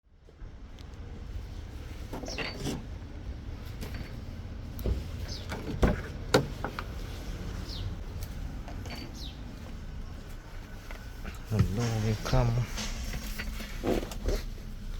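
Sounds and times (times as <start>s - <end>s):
pickup engine low rumble: 0.3s - 14.9s.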